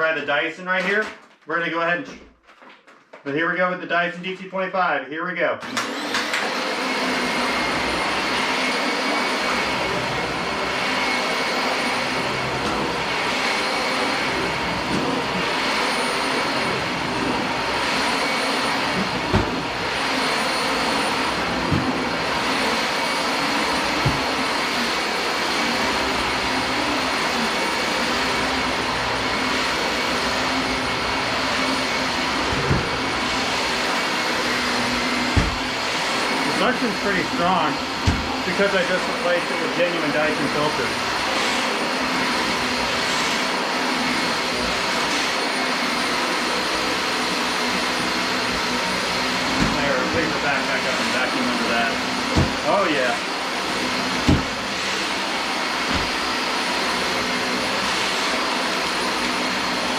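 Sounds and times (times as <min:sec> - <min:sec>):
vacuum cleaner running: 0:05.6 - 0:59.9.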